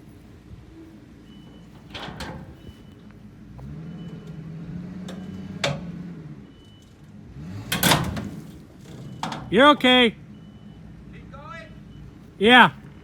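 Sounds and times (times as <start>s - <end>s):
vehicle engine straining: 0.4s - 13.0s.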